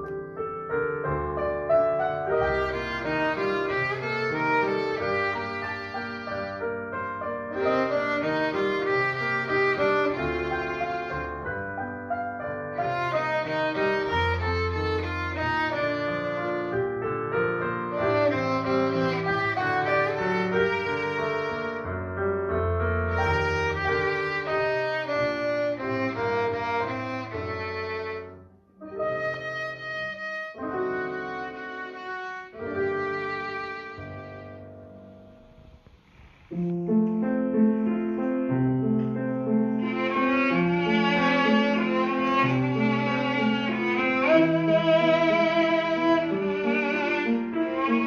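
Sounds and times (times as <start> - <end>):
piano accompaniment: 0.0 - 48.0
violin melody: 0.0 - 48.0.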